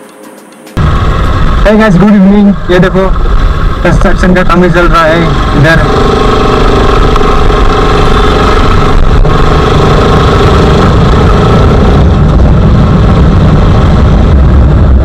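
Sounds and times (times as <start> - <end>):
motorcycle engine running: 0.8 - 15.0
wind noise on microphone: 2.6 - 15.0.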